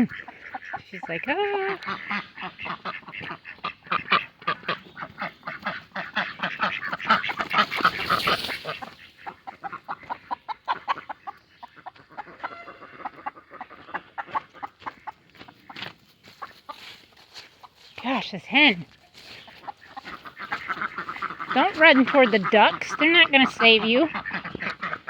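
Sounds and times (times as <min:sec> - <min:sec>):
ducks quacking: 0:00.0 - 0:25.0.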